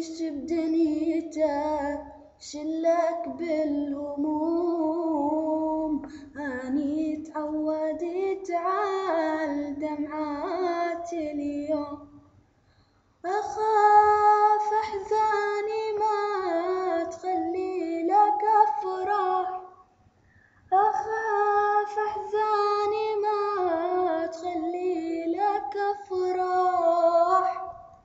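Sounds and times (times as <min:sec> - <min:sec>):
woman singing alone: 0:00.0 - 0:12.2, 0:13.2 - 0:19.8, 0:20.7 - 0:27.9.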